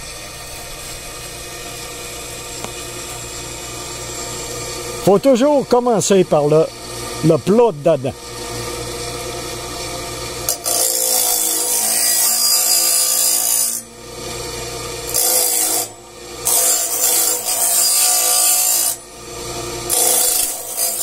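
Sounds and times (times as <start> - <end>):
bench grinder motor hum: 0.0 - 21.0
grinding wheel scraping steel: 0.0 - 21.0.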